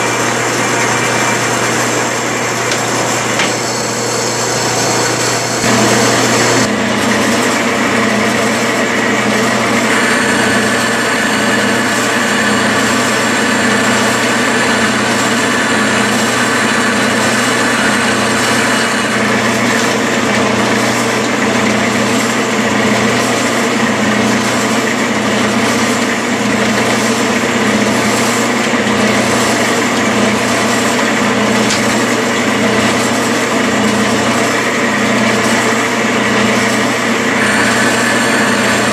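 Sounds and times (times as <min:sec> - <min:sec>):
metal lathe humming: 0:00.0 - 0:38.9
tool cutting metal thread: 0:02.6 - 0:38.9.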